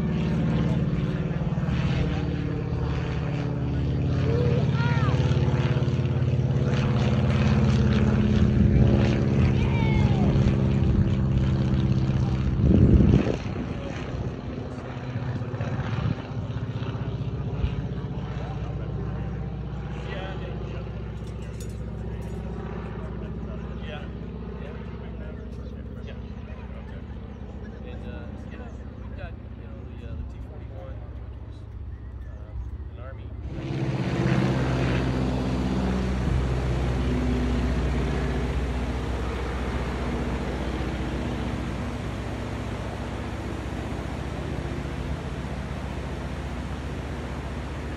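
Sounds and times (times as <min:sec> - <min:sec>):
biplane engine flying overhead: 0:00.0 - 0:47.9.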